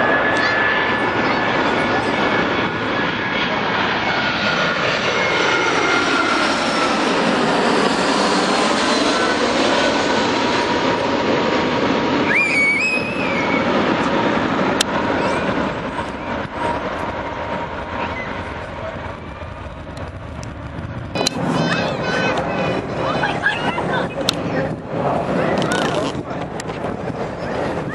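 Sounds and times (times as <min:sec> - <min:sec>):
jet airliner passing: 0:00.0 - 0:27.9.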